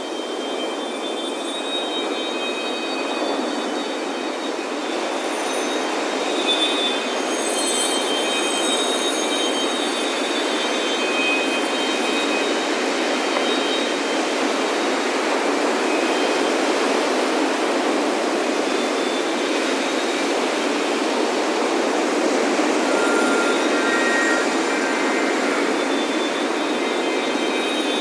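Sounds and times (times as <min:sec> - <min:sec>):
faint wind chime tones: 0:00.0 - 0:28.0.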